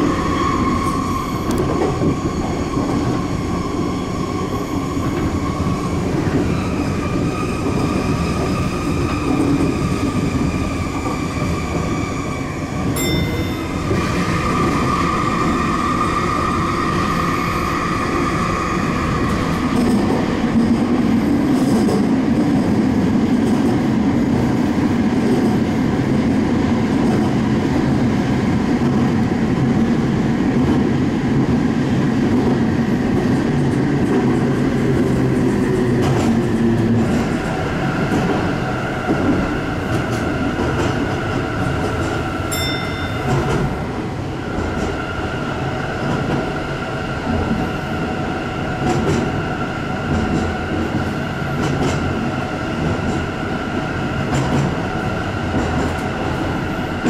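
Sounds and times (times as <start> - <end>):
train running gear rumble: 0.0 - 57.0.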